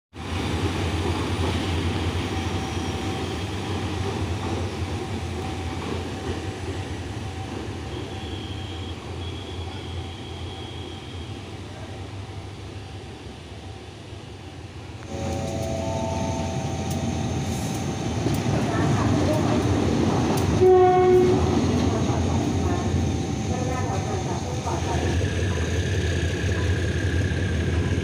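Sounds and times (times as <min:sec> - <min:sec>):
train rumbling: 0:00.2 - 0:28.0.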